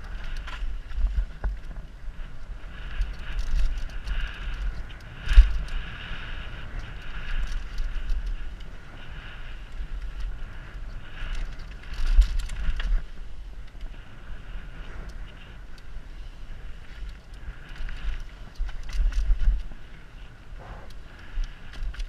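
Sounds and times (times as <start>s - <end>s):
bike clattering on dirt trail: 0.0s - 16.0s, 16.7s - 20.1s, 21.0s - 22.0s
wind rumbling on microphone: 0.0s - 22.0s.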